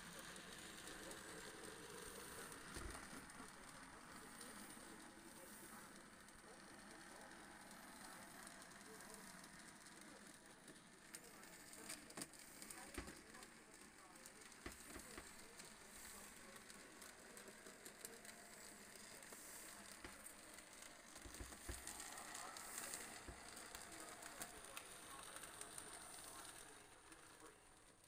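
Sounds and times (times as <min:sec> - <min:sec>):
model train clicks and thumps: 0:00.0 - 0:28.0.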